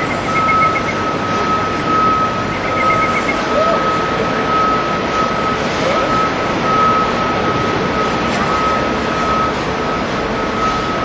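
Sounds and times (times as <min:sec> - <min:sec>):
city street traffic: 0:00.0 - 0:11.0
high electronic tone: 0:00.0 - 0:11.0.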